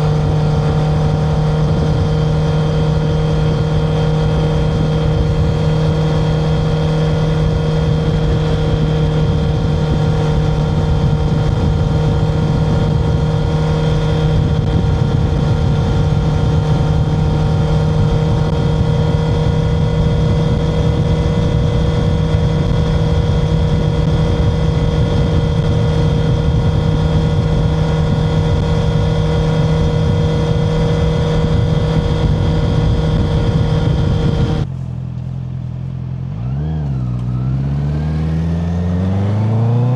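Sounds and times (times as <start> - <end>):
motorcycle engine running at steady revs: 0.0 - 39.9.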